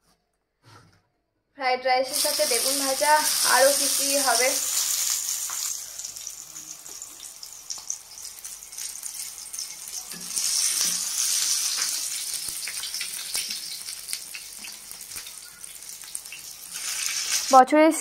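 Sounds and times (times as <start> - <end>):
eggplant sizzling in oil: 2.0 - 17.6.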